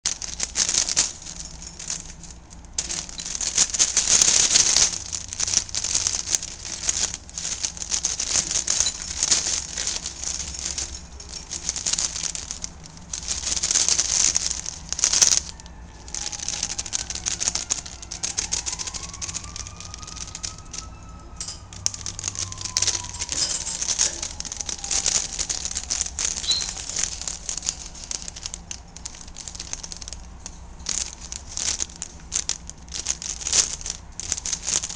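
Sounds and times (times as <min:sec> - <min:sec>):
plastic bag crinkling: 0:00.0 - 0:34.9
faint rising and falling tone: 0:01.0 - 0:32.3.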